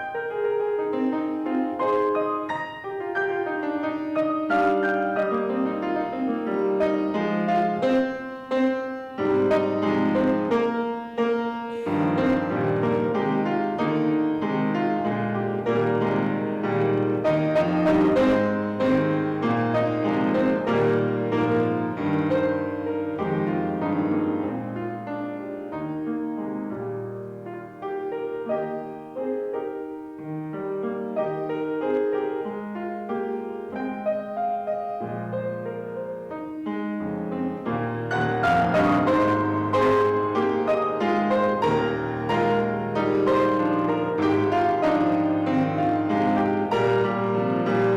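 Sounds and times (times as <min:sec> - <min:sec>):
piano piece: 0:00.0 - 0:47.9.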